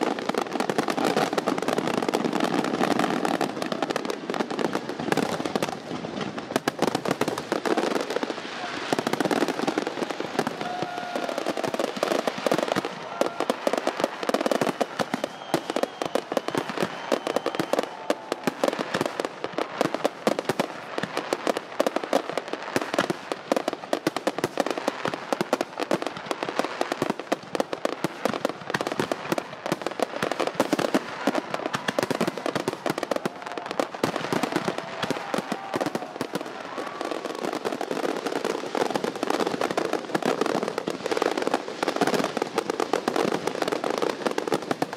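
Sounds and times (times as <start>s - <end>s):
fireworks crackling and popping: 0.0s - 44.9s.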